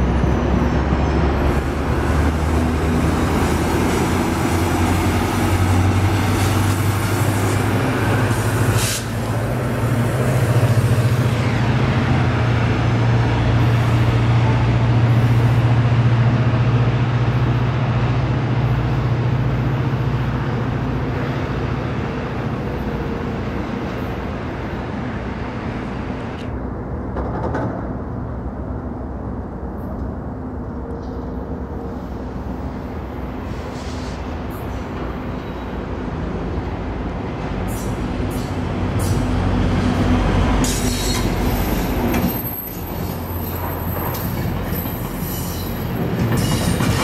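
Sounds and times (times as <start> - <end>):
diesel locomotive drone: 0.0 - 47.0
train wheels rumbling on rails: 0.0 - 47.0.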